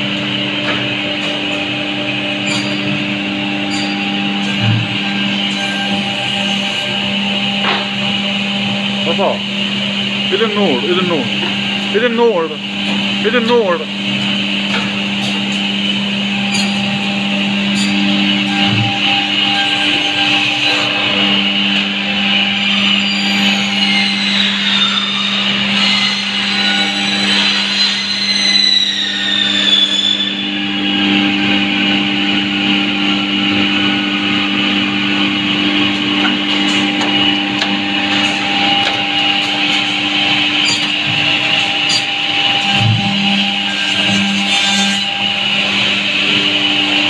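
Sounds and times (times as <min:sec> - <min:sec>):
machine motors humming: 0:00.0 - 0:47.0.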